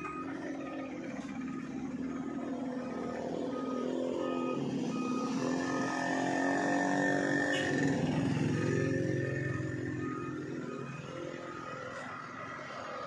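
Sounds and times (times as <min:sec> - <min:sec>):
reversing beeper: 0:00.0 - 0:13.0
vehicles passing on road: 0:00.0 - 0:13.0.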